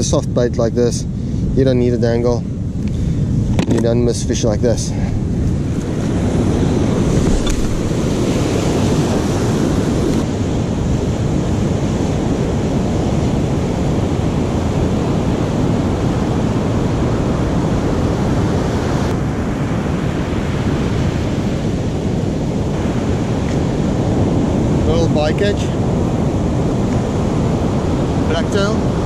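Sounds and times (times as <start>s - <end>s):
wind buffeting microphone: 0.0s - 29.0s
ocean surf breaking: 4.7s - 29.0s.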